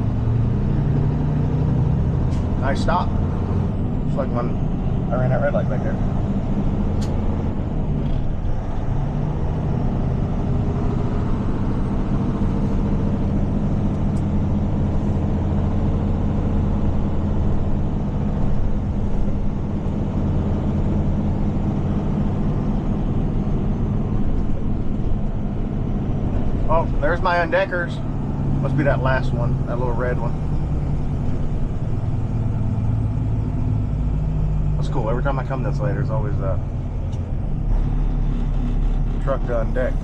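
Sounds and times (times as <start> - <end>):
truck diesel engine humming: 0.0 - 40.0.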